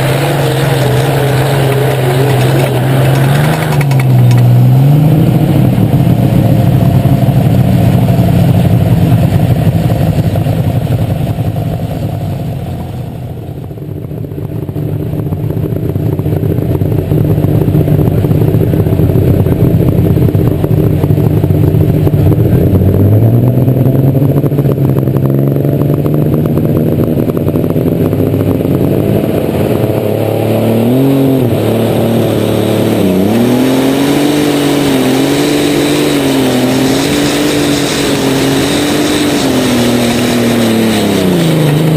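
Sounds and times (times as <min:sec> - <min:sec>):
pulling tractor engine revving: 0:00.0 - 0:41.9.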